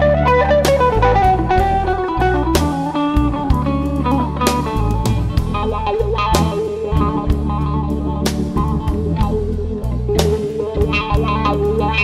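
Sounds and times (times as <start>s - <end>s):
bass notes: 0.0s - 12.0s
blues guitar: 0.0s - 12.0s
drum kit beat: 0.0s - 12.0s.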